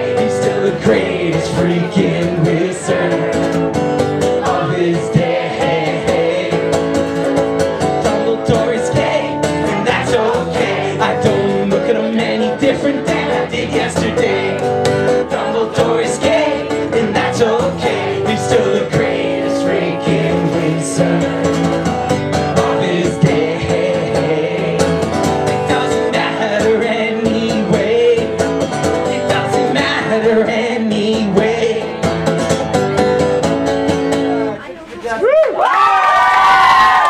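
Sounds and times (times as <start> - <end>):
man singing: 0.0 - 32.4
acoustic guitar strumming: 0.0 - 34.8.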